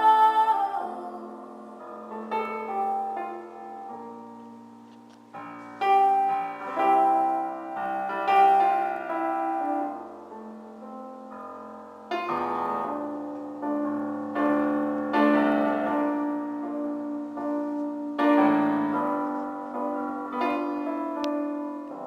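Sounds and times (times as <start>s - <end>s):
piano chords ringing: 0.0s - 22.0s.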